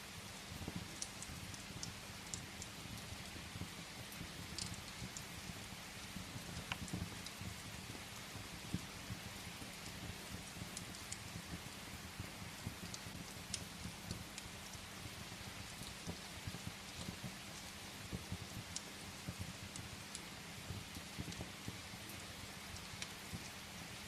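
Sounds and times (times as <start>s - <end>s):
fireplace wood crackling and popping: 0.0s - 24.0s
rain on a window: 0.0s - 24.0s.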